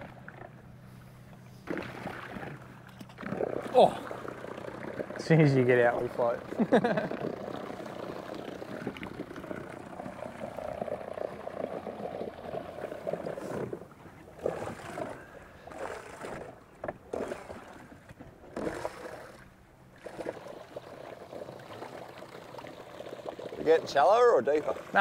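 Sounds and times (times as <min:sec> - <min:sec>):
water lapping against boat hull: 0:00.0 - 0:25.0
water splashes: 0:00.0 - 0:25.0.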